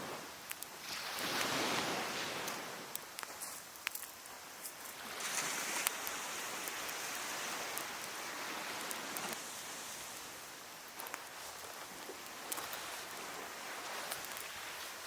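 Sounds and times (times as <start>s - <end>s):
sea wave washing up beach: 0.0s - 4.2s, 4.8s - 15.0s
wood fire crackling: 0.0s - 15.0s.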